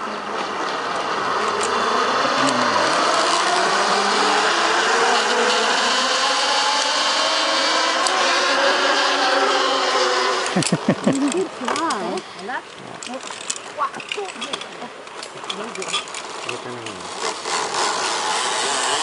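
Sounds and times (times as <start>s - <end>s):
zipline pulley whirring on cable: 0.0s - 12.2s, 15.2s - 19.0s.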